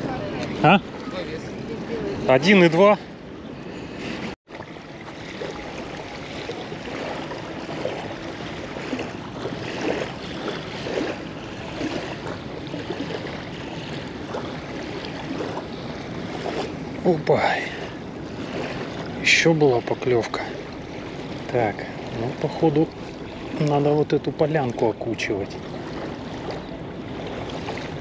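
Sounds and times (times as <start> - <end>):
small water splashes: 0.0 - 28.0
waves lapping at shore: 0.0 - 28.0.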